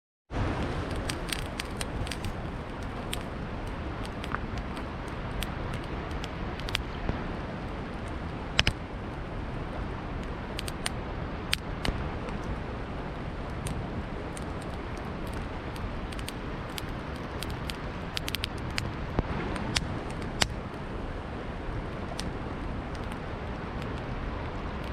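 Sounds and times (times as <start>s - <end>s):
flowing river water: 0.3s - 24.9s
campfire crackling and popping: 0.4s - 24.9s.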